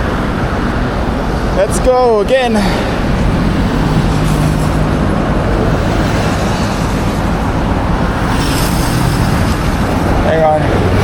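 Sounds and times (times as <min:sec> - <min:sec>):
motorcycle engine hum: 0:00.0 - 0:11.0
motorcycle traffic passing: 0:00.0 - 0:11.0.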